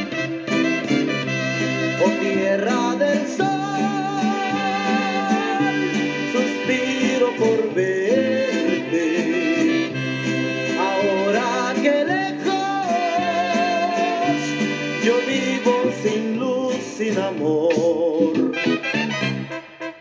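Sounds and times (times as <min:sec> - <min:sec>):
brass band instrumental music: 0:00.0 - 0:20.0.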